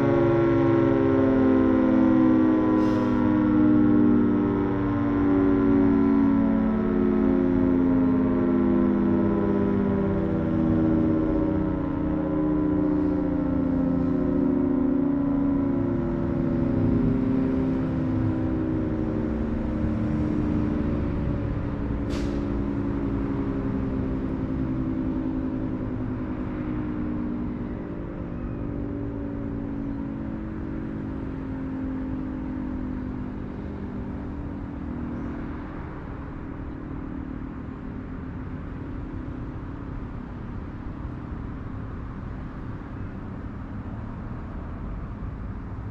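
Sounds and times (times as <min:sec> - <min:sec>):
warning siren winding down: 0:00.0 - 0:42.9.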